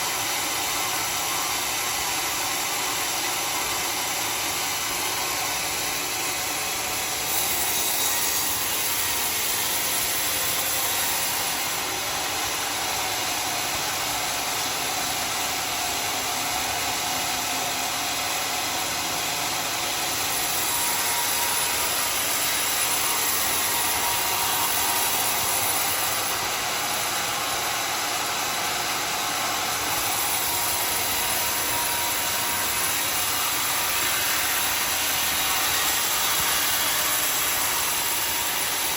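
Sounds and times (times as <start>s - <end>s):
sawmill sawing wood: 0.0s - 38.9s.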